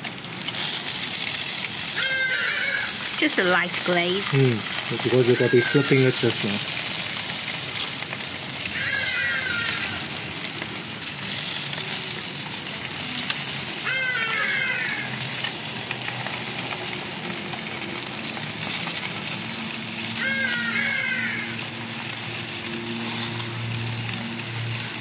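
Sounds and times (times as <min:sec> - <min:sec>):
meat sizzling on a grill: 0:00.0 - 0:25.0.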